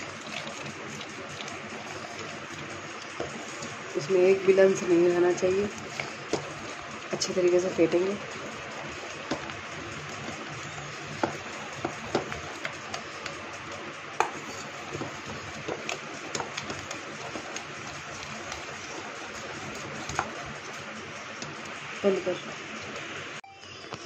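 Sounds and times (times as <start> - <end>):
spoon stirring thick batter: 0.0 - 23.4.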